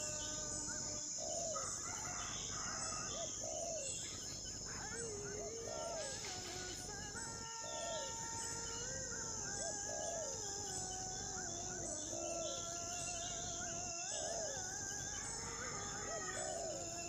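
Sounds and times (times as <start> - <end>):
birds whistling calls: 0.0 - 17.0
high-pitched insect drone: 0.0 - 17.0.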